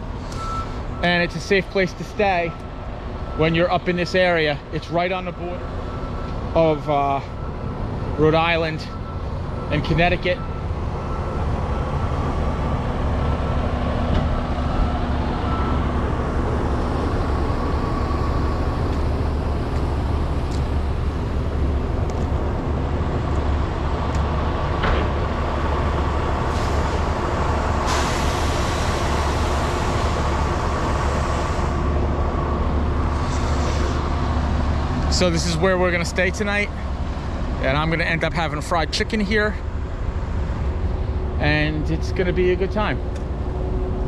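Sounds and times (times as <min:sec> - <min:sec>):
diesel trucks idling: 0:00.0 - 0:44.0.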